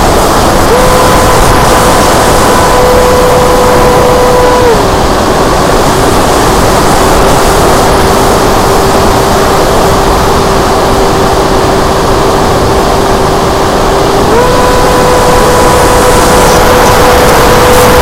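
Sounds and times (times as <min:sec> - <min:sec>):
electric motor whine: 0:00.0 - 0:18.0
wind rush over airframe: 0:00.0 - 0:18.0.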